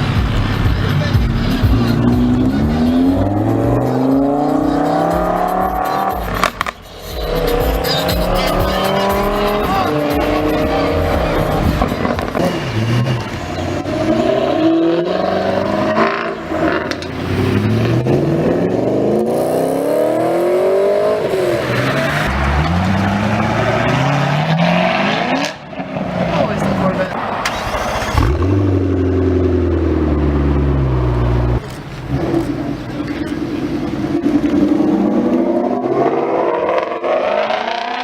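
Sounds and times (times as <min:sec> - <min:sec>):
sports car engines accelerating: 0:00.0 - 0:38.0.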